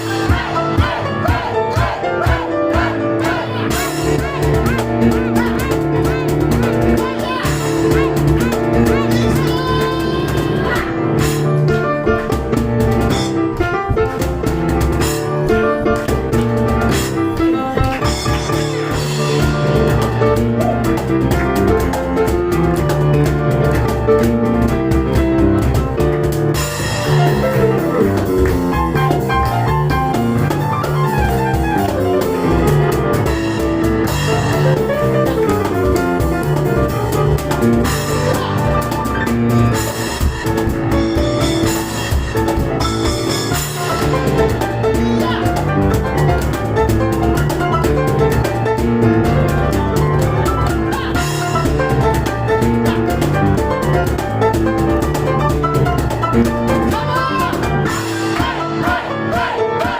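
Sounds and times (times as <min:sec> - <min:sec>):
cajon hand percussion: 0:00.0 - 0:59.9
fast piano runs: 0:00.0 - 0:59.9.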